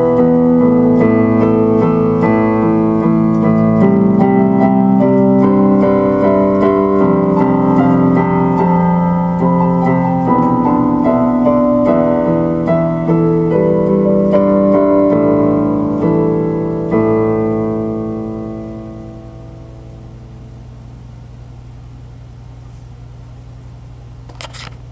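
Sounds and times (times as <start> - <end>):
slow piano chords: 0.0 - 21.8.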